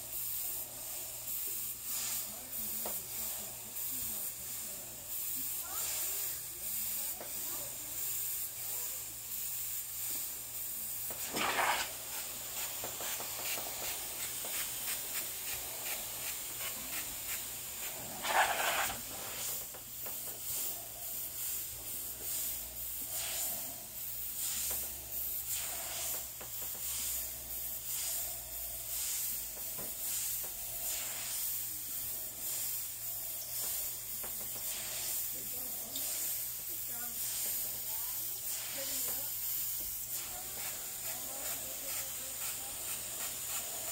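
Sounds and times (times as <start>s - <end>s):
airbrush spraying hissing bursts: 0.0s - 43.9s.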